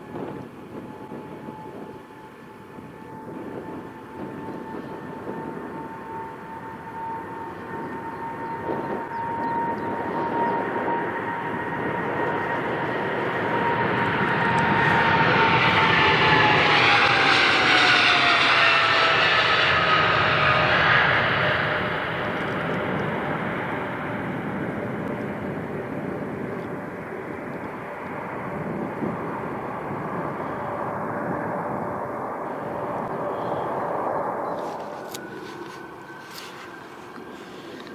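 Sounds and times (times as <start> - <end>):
jet airliner passing: 0.0 - 37.9.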